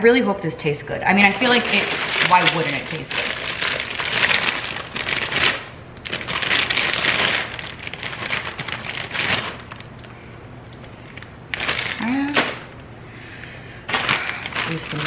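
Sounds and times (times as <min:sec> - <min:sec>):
plastic bag crinkling: 0:01.2 - 0:12.8, 0:13.9 - 0:15.0.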